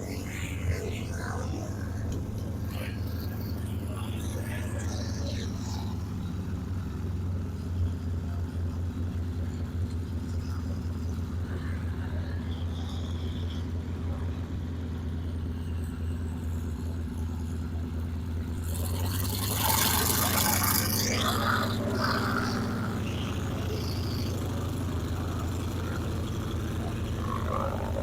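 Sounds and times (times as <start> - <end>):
propeller airplane droning: 0.0 - 28.0.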